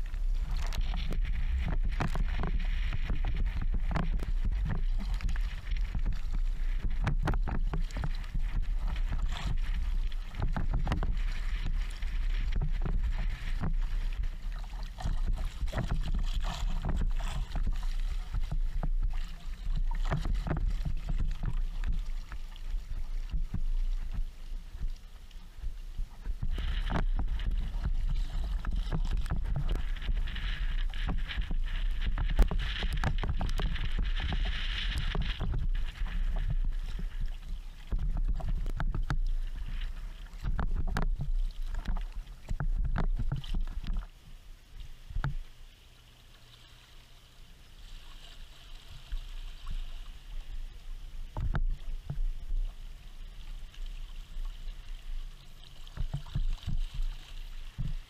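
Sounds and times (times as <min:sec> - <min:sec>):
water rushing along kayak hull: 0:00.0 - 0:58.0.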